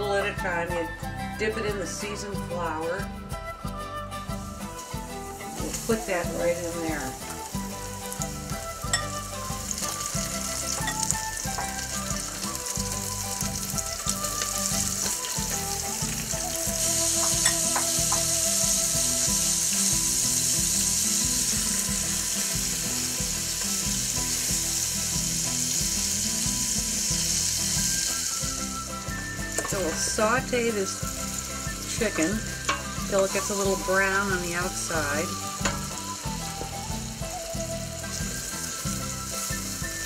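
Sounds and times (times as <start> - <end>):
chicken frying in hot oil: 4.8 - 40.0.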